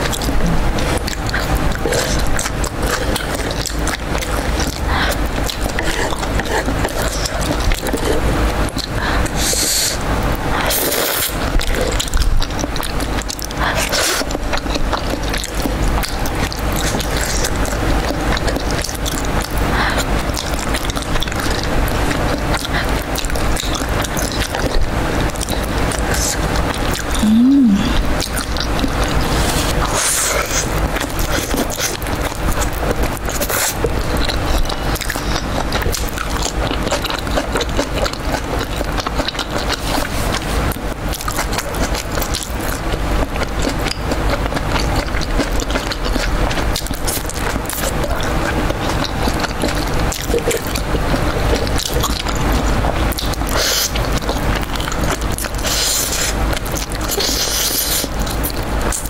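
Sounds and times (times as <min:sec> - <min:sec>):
chewing and crunching food: 0:00.0 - 0:59.0
wet mouth sounds: 0:00.0 - 0:59.0.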